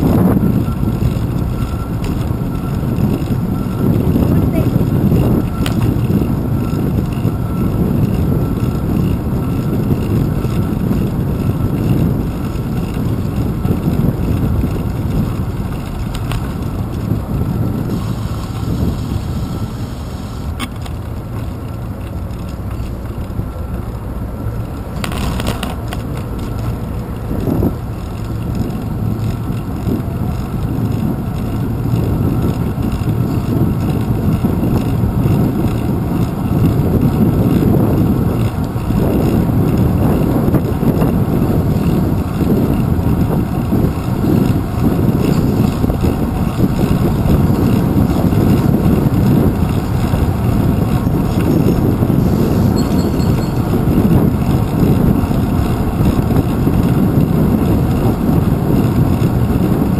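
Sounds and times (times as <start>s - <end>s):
wind and road rumble: 0.0s - 59.9s.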